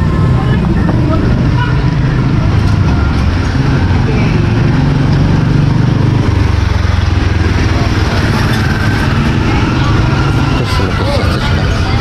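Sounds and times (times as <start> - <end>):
motor vehicle engine drone: 0.0 - 12.0
street noise: 0.0 - 12.0.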